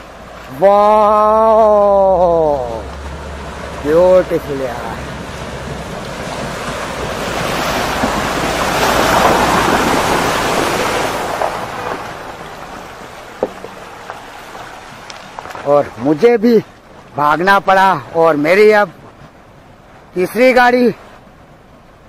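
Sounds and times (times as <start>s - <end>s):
water splashing around wheels: 0.0s - 22.0s.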